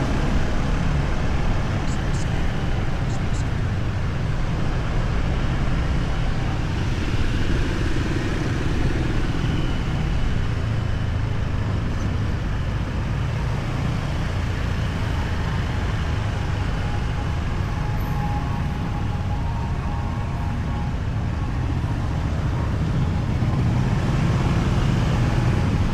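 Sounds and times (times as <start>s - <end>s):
traffic engines and road noise: 0.0s - 25.9s.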